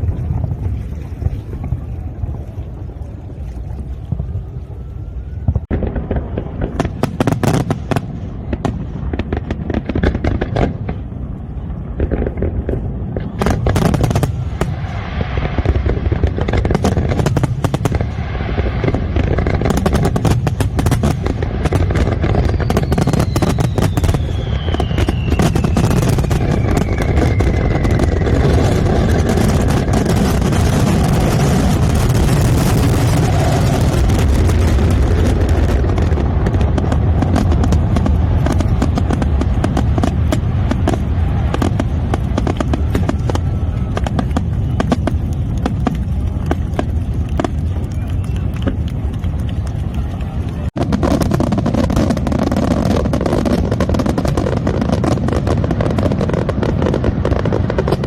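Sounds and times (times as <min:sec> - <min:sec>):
low rumble: 0:00.0 - 0:51.4
descending firework whistle: 0:00.0 - 0:58.0
fireworks bursting and crackling: 0:00.0 - 0:58.0.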